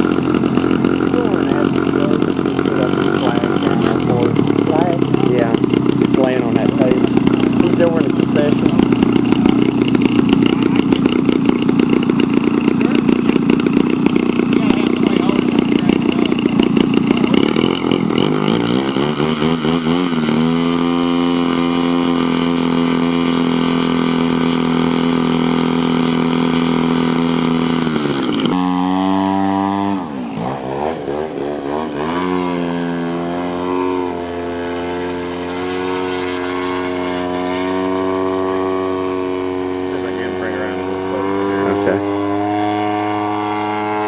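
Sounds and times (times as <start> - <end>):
model airplane engine running: 0.0 - 44.0.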